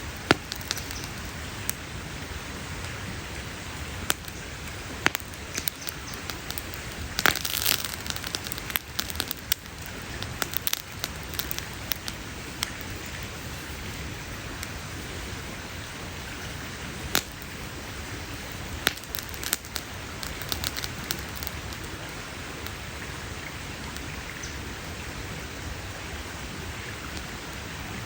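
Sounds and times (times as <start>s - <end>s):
wood campfire crackling: 0.0s - 28.0s.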